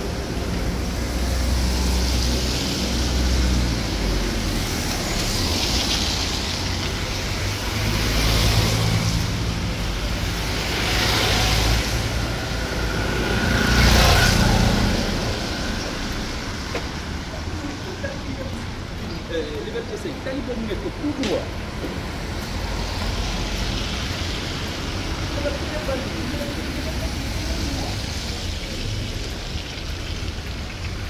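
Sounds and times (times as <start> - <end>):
tyres hissing on wet asphalt: 0.0 - 31.0.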